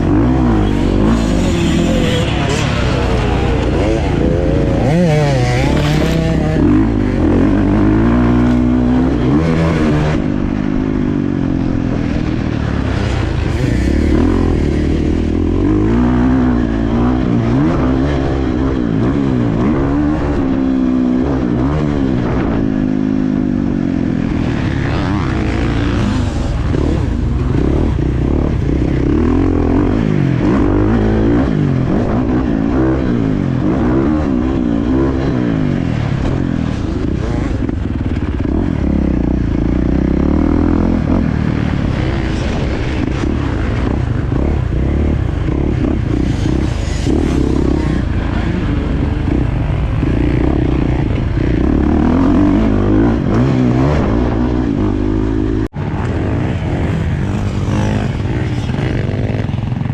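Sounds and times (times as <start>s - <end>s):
dirt bike engine revving: 0.0s - 22.8s, 24.2s - 59.9s.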